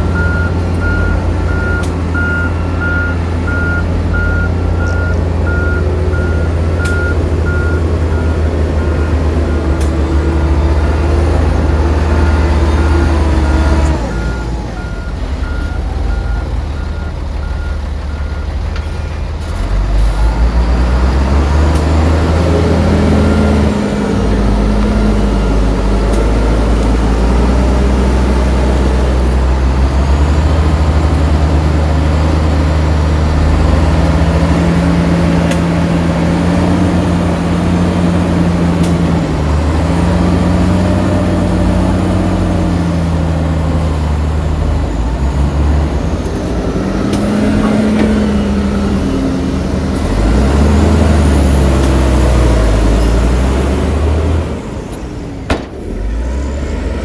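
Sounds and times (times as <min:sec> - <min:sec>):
heavy diesel engine revving: 0:00.0 - 0:57.0.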